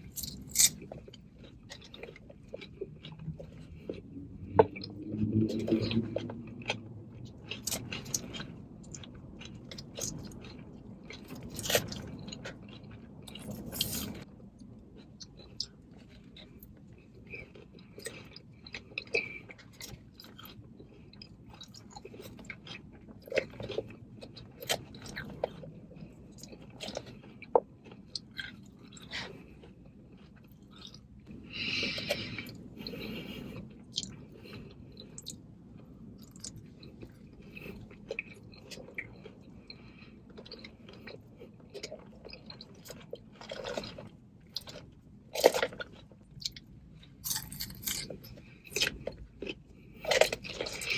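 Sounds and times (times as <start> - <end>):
chewing and crunching salad: 0.0 - 50.9.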